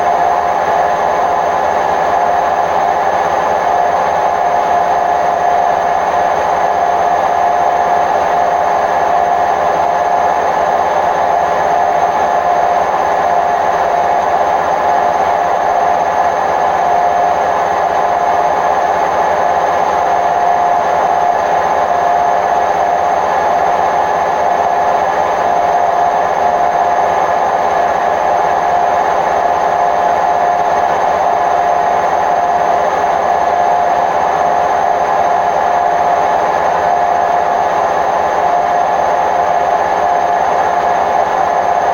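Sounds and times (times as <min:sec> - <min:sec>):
washing machine spinning with whine: 0:00.0 - 0:41.9.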